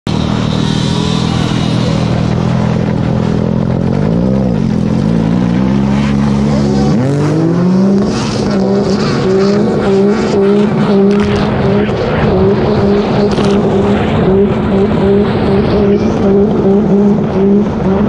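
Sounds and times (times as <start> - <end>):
jet ski engine revving: 0.2 - 18.0.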